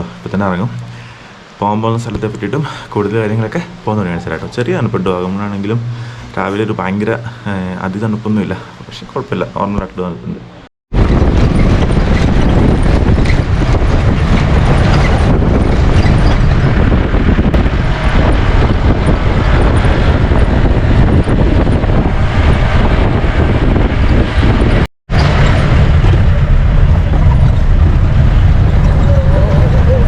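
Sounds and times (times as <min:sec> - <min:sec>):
car engine rumbling: 0:00.0 - 0:30.0
wind buffeting microphone: 0:00.0 - 0:30.0.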